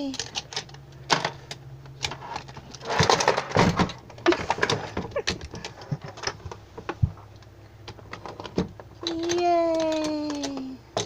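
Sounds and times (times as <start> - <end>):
wooden latches clicking and knocking: 0.0 - 11.0.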